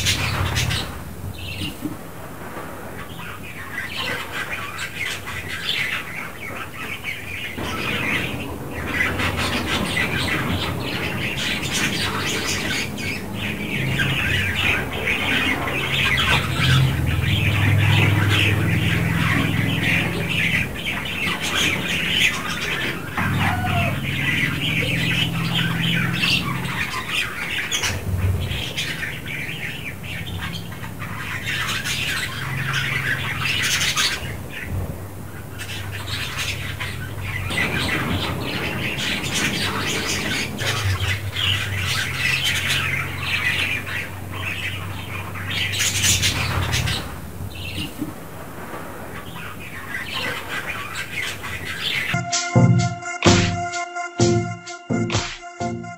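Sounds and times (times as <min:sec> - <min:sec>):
budgerigars chattering: 0:00.0 - 0:01.8, 0:03.0 - 0:34.7, 0:35.4 - 0:47.9.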